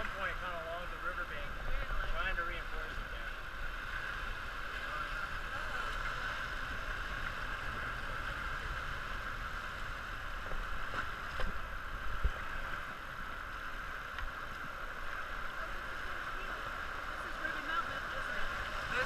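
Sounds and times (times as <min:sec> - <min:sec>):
whitewater rushing: 0:00.0 - 0:19.0.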